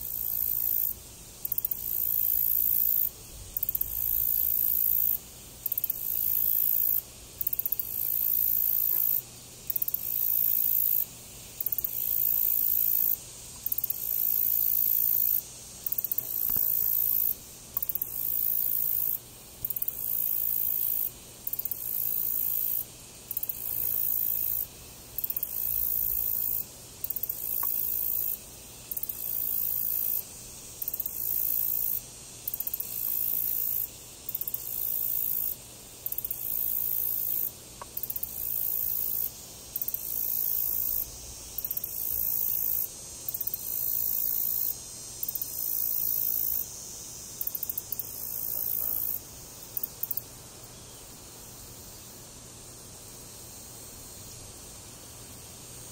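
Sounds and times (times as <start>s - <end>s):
insects buzzing in pulses: 0.0s - 55.9s.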